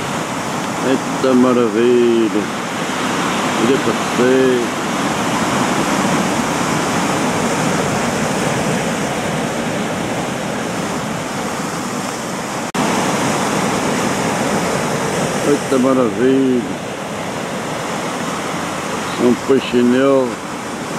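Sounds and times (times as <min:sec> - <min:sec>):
surf breaking over rocks: 0:00.0 - 0:20.9.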